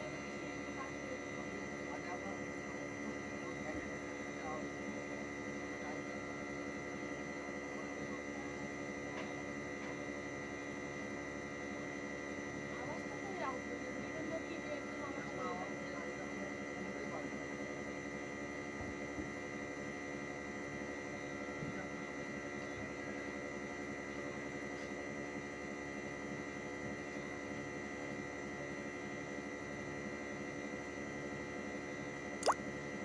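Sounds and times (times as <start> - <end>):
air conditioner unit humming: 0.0 - 33.0.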